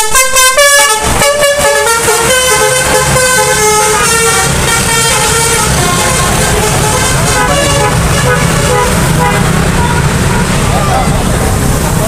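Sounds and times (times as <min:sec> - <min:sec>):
multi-tone bus air horn tune: 0:00.0 - 0:10.7
traffic noise: 0:00.0 - 0:12.0.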